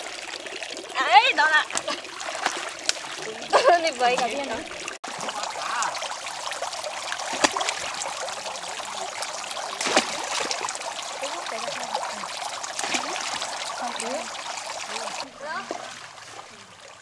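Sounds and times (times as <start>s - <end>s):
sharp splashes: 0.0s - 17.0s
water pouring into tank: 0.0s - 17.0s.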